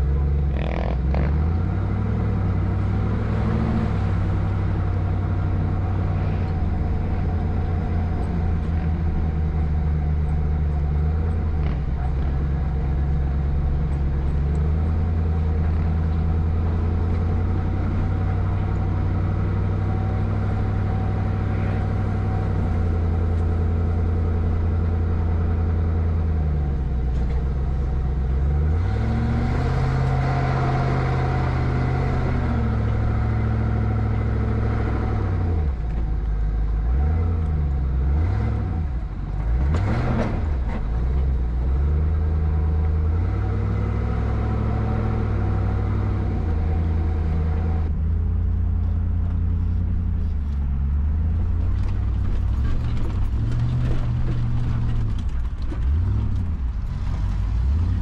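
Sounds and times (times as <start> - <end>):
car engine at low revs: 0.0 - 58.0.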